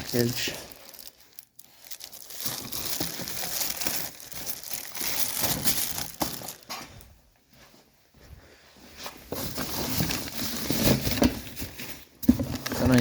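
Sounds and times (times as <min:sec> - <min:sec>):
packaging crinkling and rustling: 0:00.0 - 0:07.0, 0:09.3 - 0:13.0.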